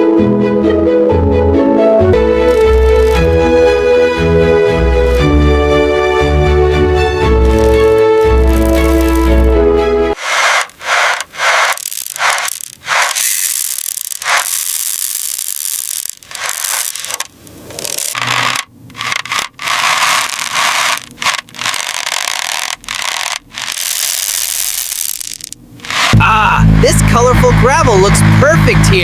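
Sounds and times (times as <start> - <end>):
scraping and rubbing strokes: 2.2 - 4.0, 7.2 - 29.0.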